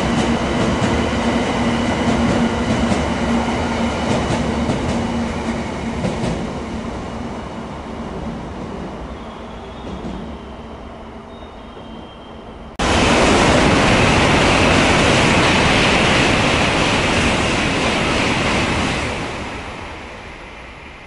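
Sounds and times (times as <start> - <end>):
train rushing past: 0.0 - 21.0.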